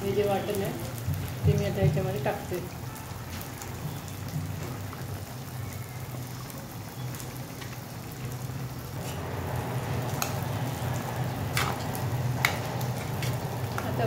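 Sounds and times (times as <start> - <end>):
food sizzling and bubbling: 0.0 - 14.0.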